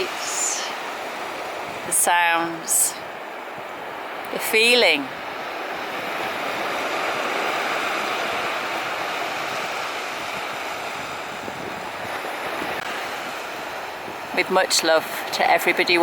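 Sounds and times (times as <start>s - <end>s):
surf breaking on beach: 0.0s - 16.0s.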